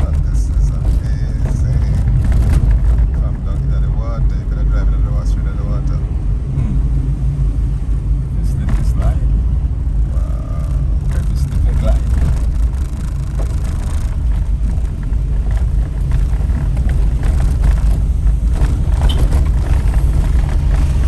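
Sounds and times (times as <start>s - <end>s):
car driving on rough road: 0.0s - 21.0s.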